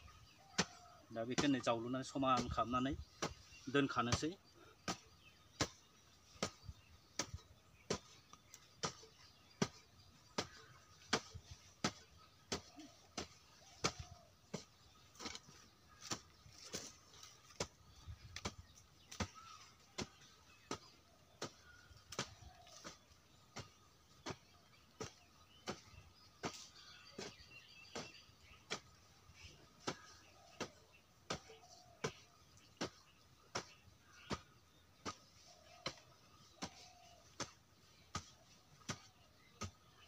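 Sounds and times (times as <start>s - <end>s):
hoe chopping into soil: 2.4s - 39.8s.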